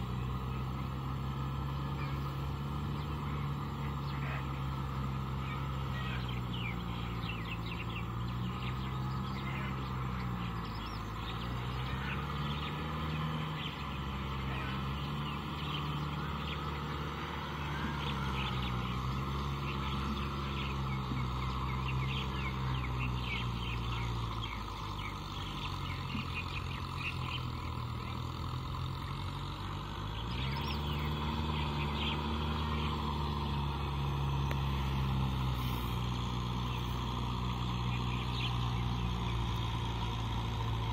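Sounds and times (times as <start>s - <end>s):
distant tractor engine under load: 0.0s - 40.9s
small birds chirping: 0.0s - 40.9s.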